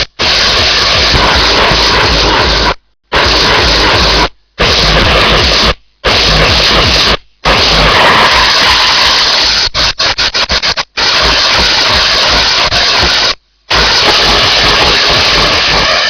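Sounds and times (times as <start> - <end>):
harsh distorted noise music: 0.0 - 16.0.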